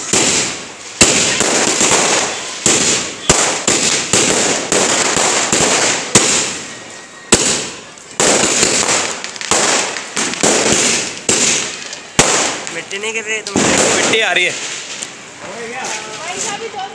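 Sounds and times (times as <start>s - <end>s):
fireworks crackling hiss: 0.0s - 16.9s
fireworks reports: 0.0s - 16.9s.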